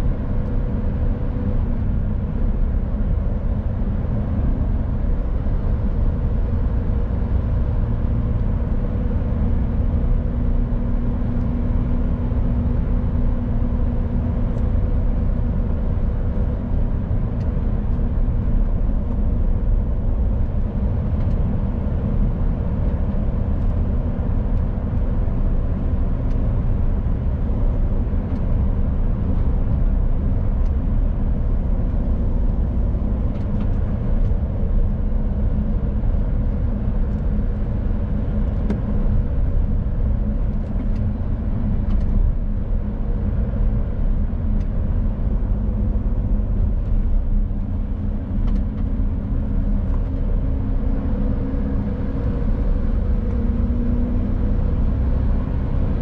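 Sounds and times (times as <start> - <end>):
road rumble: 0.0 - 56.0
truck engine drone: 0.0 - 56.0.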